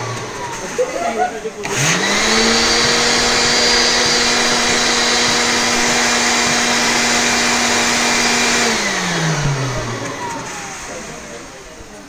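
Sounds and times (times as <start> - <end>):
electric blower motor running: 0.0 - 1.0, 1.6 - 12.0.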